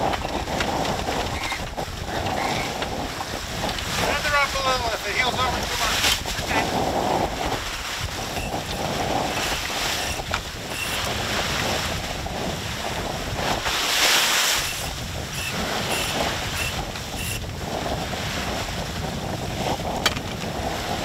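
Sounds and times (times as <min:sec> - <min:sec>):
water rushing along boat hull: 0:00.0 - 0:21.0
wind buffeting microphone: 0:00.0 - 0:21.0.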